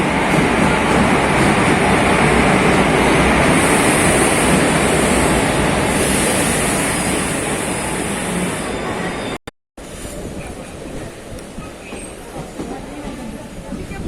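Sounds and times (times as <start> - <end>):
passenger train running: 0.0 - 14.0.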